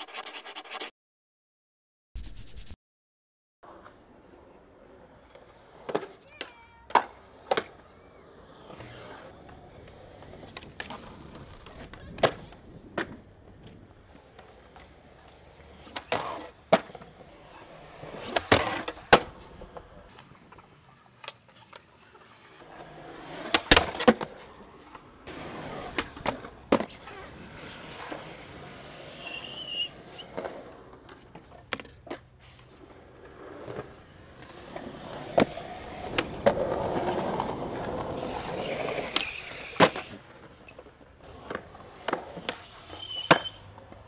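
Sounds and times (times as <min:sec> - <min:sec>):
skateboard wheels rolling on concrete: 0:03.6 - 0:44.0
skateboard cracking on ground: 0:05.0 - 0:44.0.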